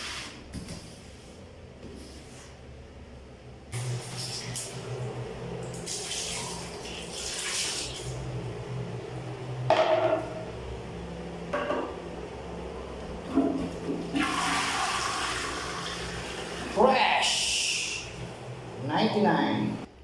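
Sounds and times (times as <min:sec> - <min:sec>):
toilet flushing: 0:03.7 - 0:19.9.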